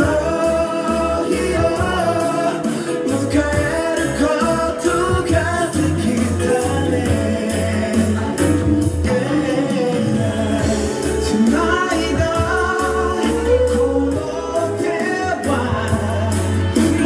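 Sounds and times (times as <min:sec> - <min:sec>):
backing music with bass line: 0:00.0 - 0:17.0
men singing pop into microphones: 0:00.0 - 0:17.0.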